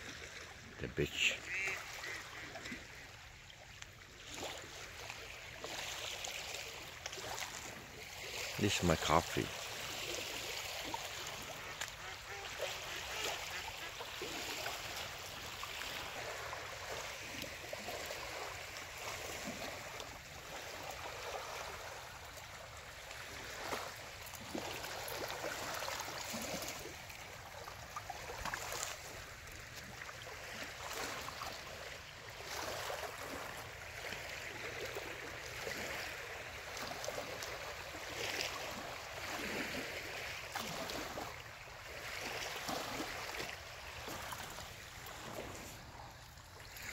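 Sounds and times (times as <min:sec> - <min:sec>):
small waves lapping on rocks: 0:00.0 - 0:46.9
water splashes: 0:00.0 - 0:46.9.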